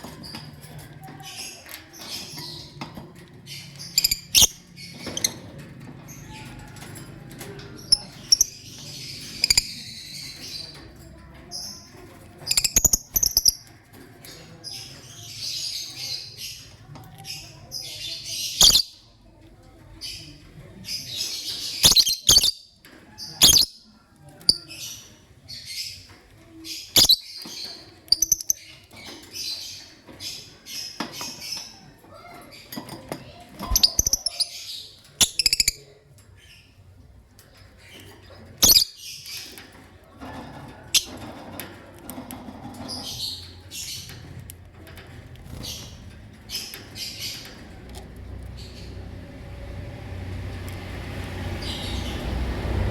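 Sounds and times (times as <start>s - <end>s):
lovebirds chirping and squawking: 0.0s - 52.9s.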